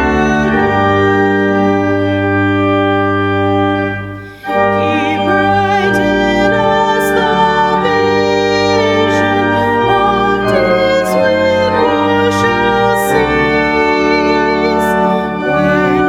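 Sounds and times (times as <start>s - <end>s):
organ playing sustained chords: 0.0s - 16.0s.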